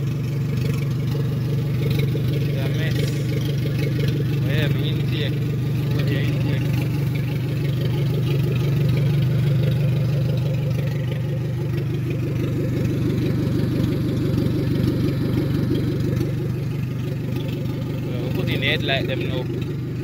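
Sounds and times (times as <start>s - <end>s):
car engine idling without exhaust: 0.0s - 20.0s.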